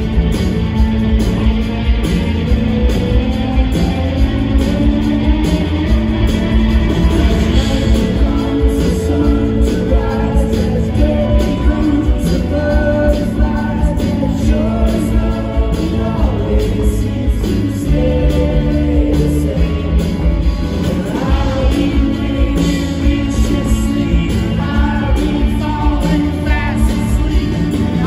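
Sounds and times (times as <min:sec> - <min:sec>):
live rock band playing: 0:00.0 - 0:28.0
people singing: 0:03.7 - 0:28.0.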